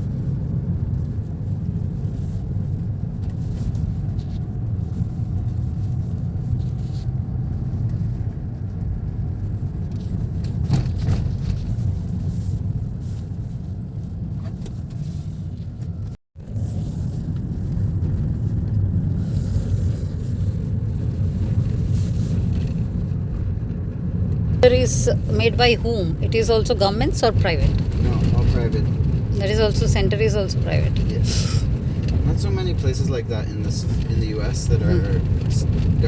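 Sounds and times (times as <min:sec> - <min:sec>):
car road rumble: 0:00.0 - 0:36.0.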